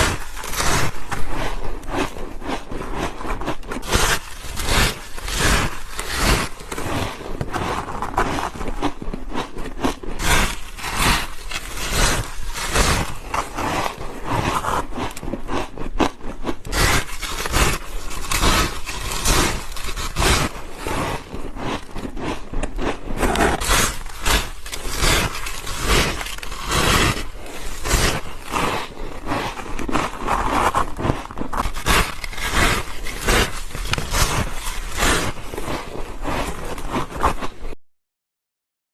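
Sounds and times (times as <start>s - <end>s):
ice crunching being chewed: 0.0s - 37.8s.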